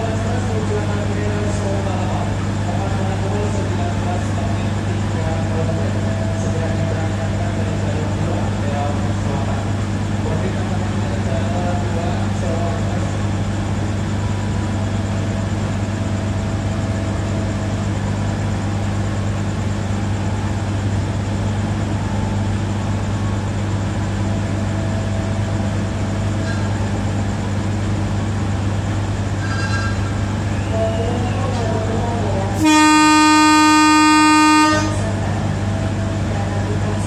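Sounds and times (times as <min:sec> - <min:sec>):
diesel train engine idling: 0:00.0 - 0:37.0.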